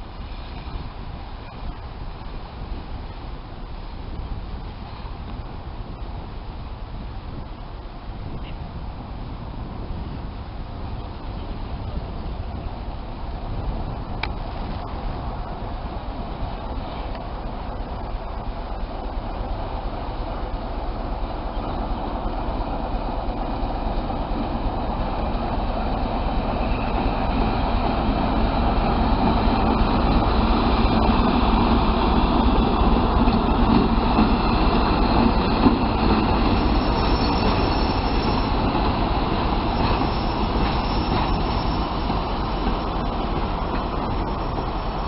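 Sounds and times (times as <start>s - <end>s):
diesel locomotive engine running: 0.0s - 45.0s
wheels rumbling on rails: 0.0s - 45.0s.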